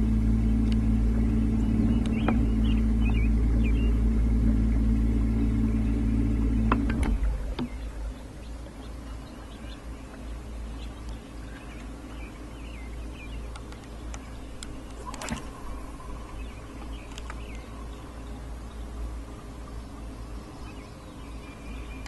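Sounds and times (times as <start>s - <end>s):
birds chirping faintly: 0.0s - 22.0s
low rumble: 0.0s - 22.0s.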